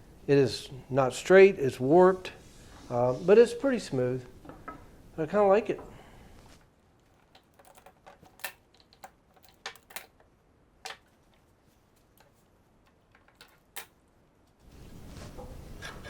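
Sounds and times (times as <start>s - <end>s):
low steady noise: 0.0s - 16.0s.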